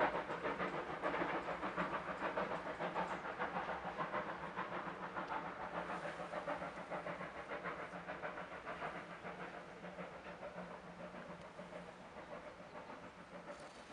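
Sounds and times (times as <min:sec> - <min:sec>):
steam hiss: 0:00.0 - 0:13.9
steam train rhythmic chuffing: 0:00.0 - 0:13.9.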